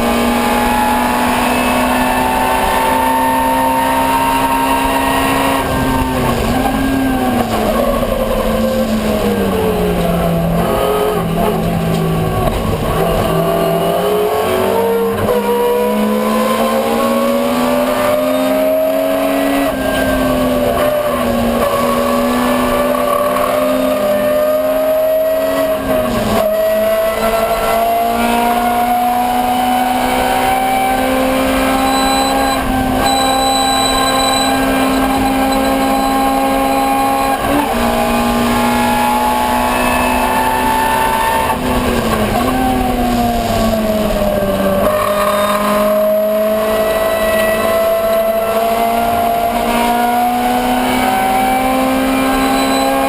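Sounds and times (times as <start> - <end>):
car engine running hard: 0.0 - 53.0.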